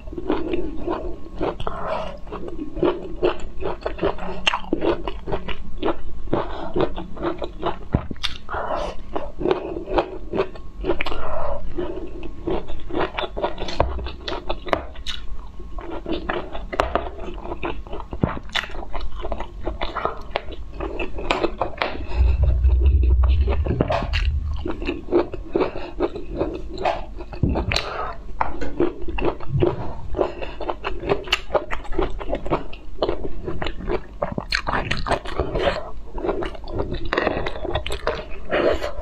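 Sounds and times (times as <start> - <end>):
crunchy chewing of broccoli: 0.0 - 39.0.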